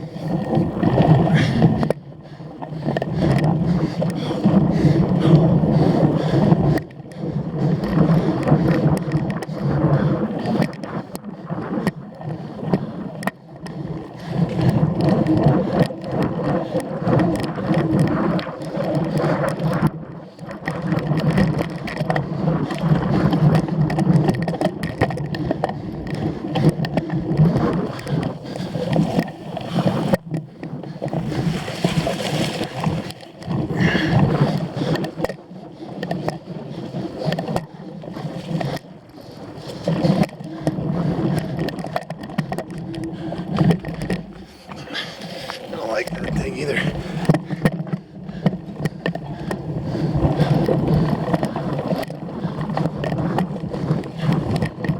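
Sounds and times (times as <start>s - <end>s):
bike tyres rumbling over rough ground: 0.0s - 54.9s.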